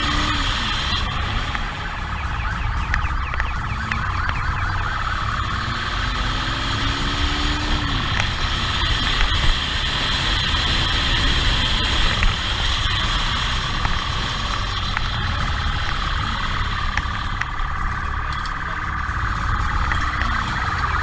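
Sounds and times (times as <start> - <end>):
motorcycle engine: 0.0 - 21.0
police motorcycle siren: 0.0 - 21.0
siren yelps: 0.0 - 21.0
wind noise: 0.0 - 21.0.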